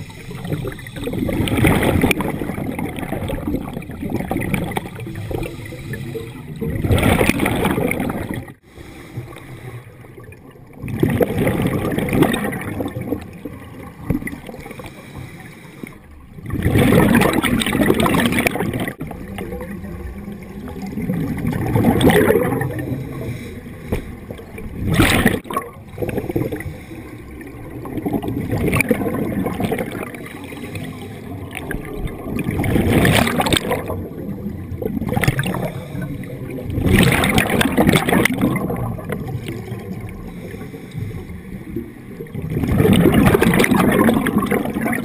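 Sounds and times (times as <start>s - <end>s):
underwater bubbles gurgling: 0.0s - 45.0s.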